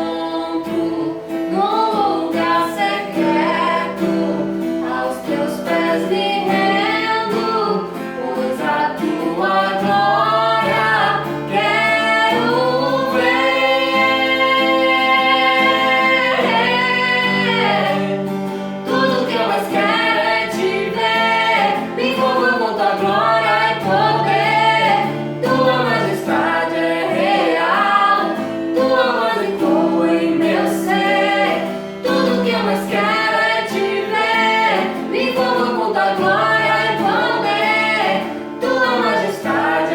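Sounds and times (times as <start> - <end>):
acoustic guitar: 0.0 - 39.9
woman singing: 0.0 - 39.9.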